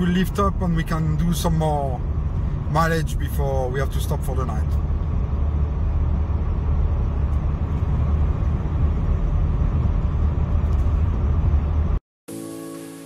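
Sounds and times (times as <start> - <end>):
car cabin road noise rumble: 0.0 - 12.0.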